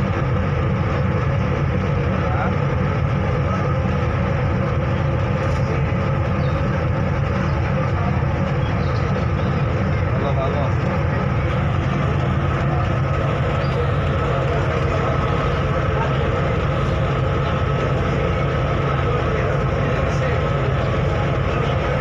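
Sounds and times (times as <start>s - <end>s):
ferry engine droning: 0.0s - 22.0s.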